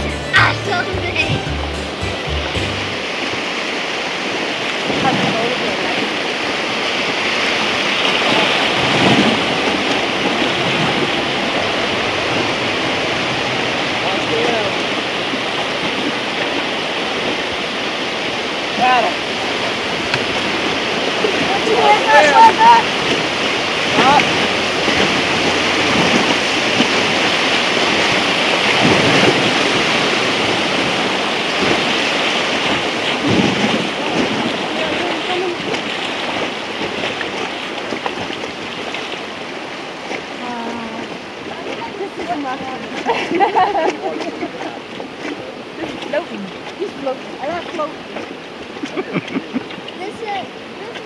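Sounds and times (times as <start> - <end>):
whitewater river rushing: 0.0 - 51.0.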